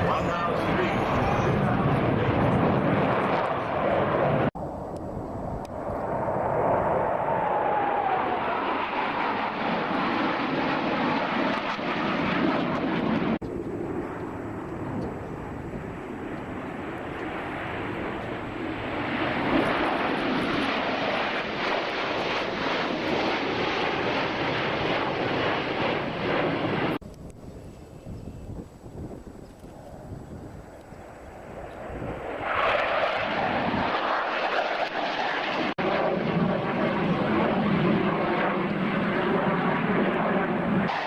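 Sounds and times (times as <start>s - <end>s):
airplane engine flying past: 0.0s - 41.0s.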